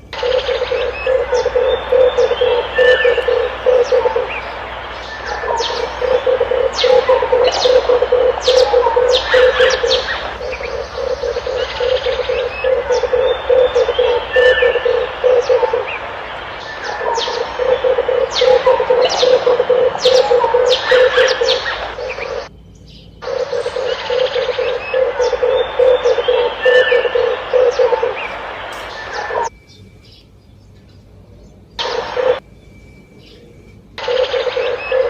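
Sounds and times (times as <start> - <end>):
small birds chirping: 0.0 - 35.0
dove cooing: 0.2 - 22.5, 23.2 - 29.5, 31.8 - 32.4, 34.0 - 35.0.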